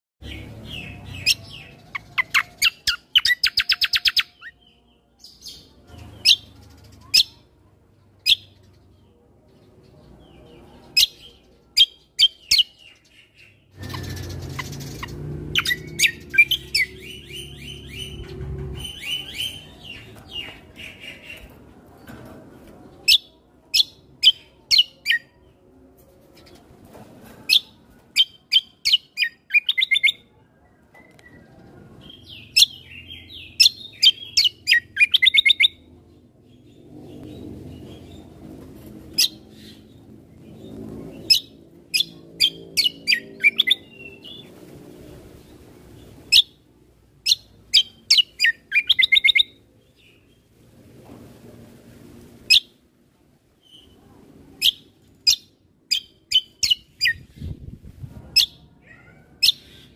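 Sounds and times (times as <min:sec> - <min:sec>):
songbird chirping and trilling: 0:00.2 - 0:50.6, 0:53.5 - 0:59.9.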